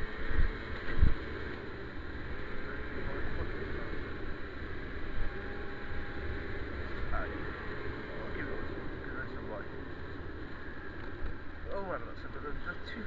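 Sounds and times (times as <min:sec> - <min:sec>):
wind rushing over microphone: 0:00.0 - 0:11.7
small motorbike engine running: 0:00.0 - 0:13.0.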